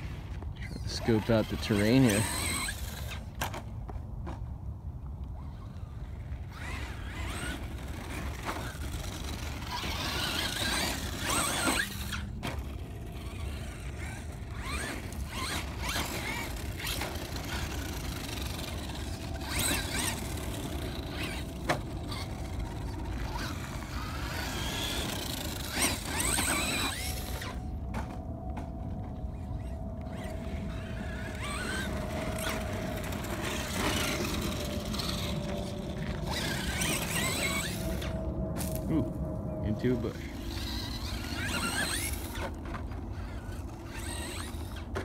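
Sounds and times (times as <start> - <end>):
electric motor whining: 0.0 - 3.4, 5.3 - 45.0.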